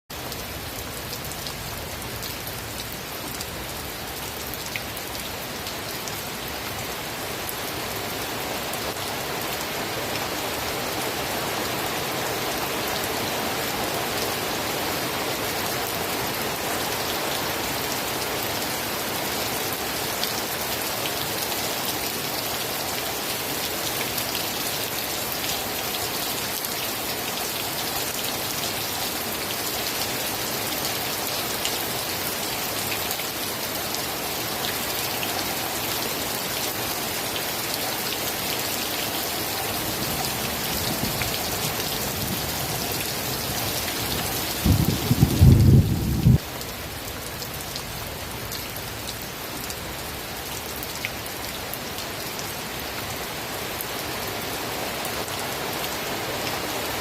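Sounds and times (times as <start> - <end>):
steady rain falling: 0.1 - 57.0.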